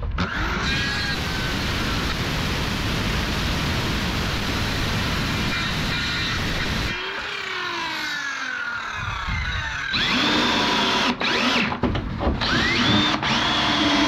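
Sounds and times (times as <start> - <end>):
circular saw cutting wood: 0.2 - 14.0.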